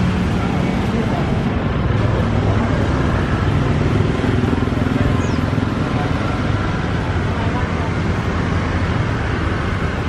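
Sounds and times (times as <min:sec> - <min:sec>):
turboprop aircraft engines droning: 0:00.0 - 0:10.0.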